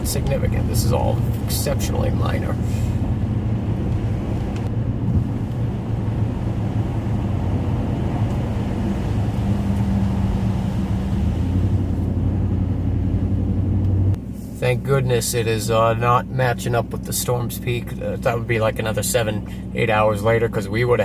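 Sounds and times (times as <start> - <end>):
engine hum: 0.0 - 21.0
road noise inside vehicle: 0.0 - 21.0.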